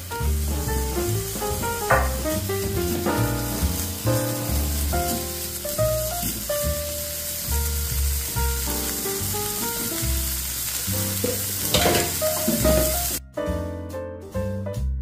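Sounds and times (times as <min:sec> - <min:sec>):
bacon sizzling in a pan: 0:00.0 - 0:13.2
background music with bass line: 0:00.0 - 0:15.0.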